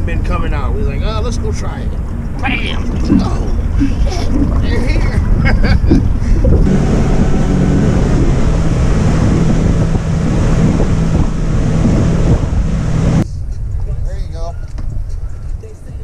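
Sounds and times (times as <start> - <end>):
boat motor running: 0.0 - 13.8
water noise: 0.0 - 15.1
wind buffeting microphone: 0.0 - 16.0.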